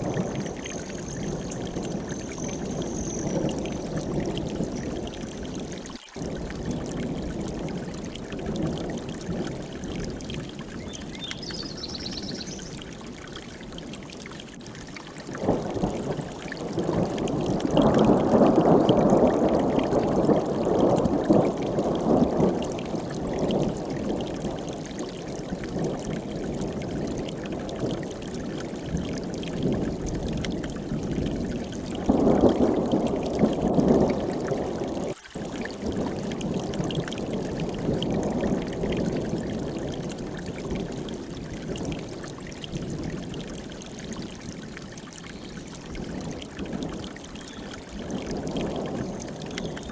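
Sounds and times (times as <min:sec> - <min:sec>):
stream rushing over rocks: 0:00.0 - 0:49.9.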